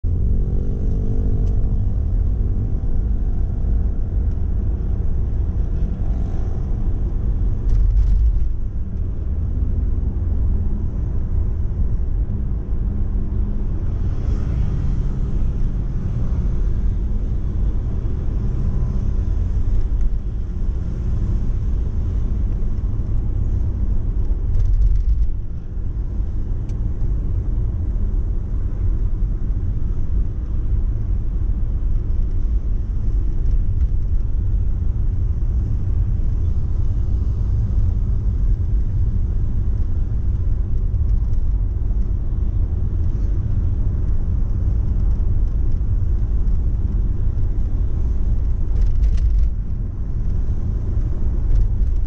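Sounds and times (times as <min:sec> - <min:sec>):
car cabin road and engine rumble: 0:00.0 - 0:52.0.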